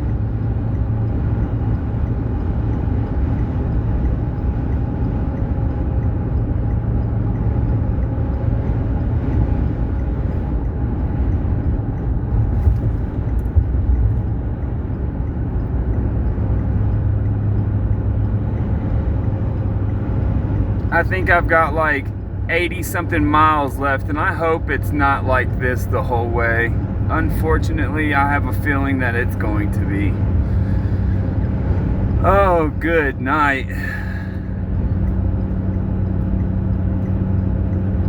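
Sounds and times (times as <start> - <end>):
vehicle road and engine noise: 0.0 - 38.0.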